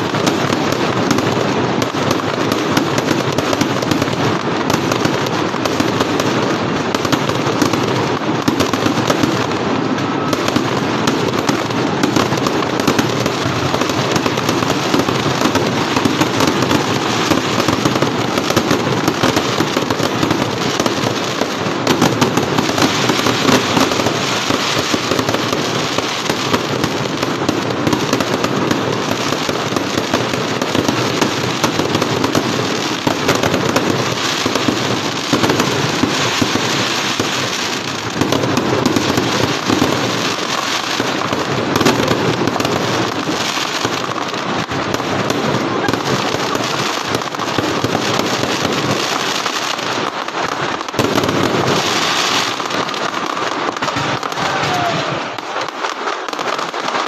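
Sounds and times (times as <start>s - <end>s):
fireworks crackling bangs: 0.0s - 57.0s.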